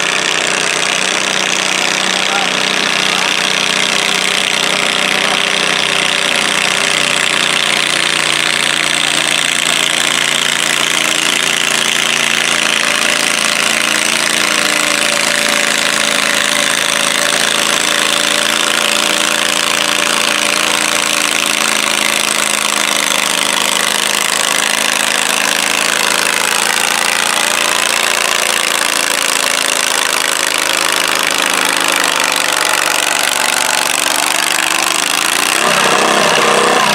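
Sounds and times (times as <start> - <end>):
tractor engines running: 0.0 - 36.9.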